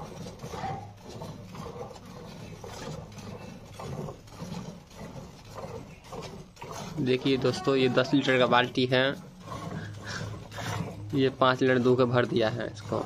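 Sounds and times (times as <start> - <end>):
milk squirting into metal bucket: 0.0 - 13.0.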